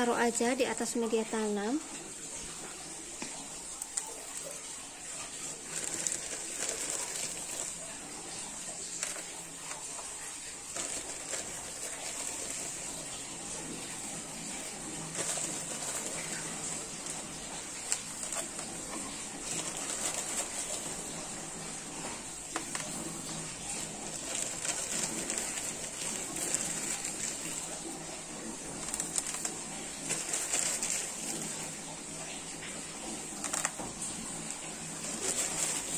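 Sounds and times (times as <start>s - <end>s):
pebbles clicking: 3.2s - 35.9s.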